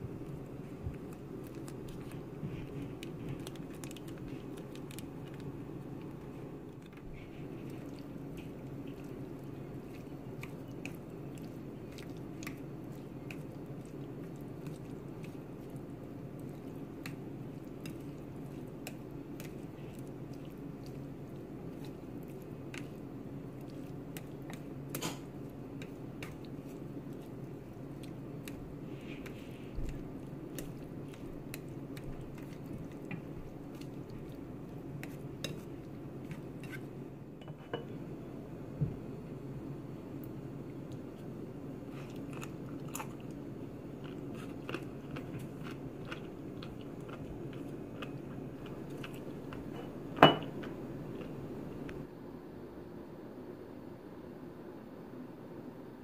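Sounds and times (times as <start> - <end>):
wet squishing of food: 0.0 - 37.4, 40.1 - 52.1
steady low hum: 0.0 - 56.0.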